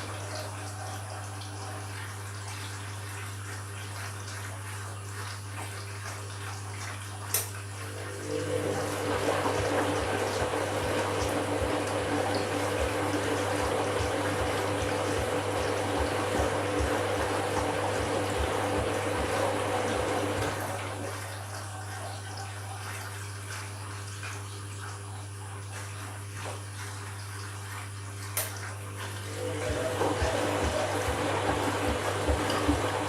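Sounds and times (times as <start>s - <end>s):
washing machine pump hum: 0.0s - 33.0s
water rushing in washing machine: 0.0s - 33.0s.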